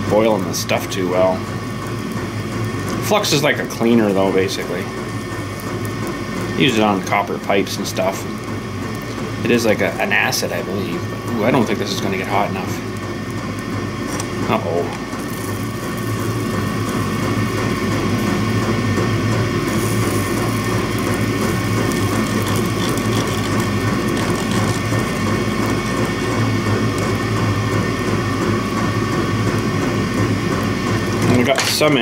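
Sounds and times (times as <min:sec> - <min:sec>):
soldering gun humming: 0:00.0 - 0:32.0.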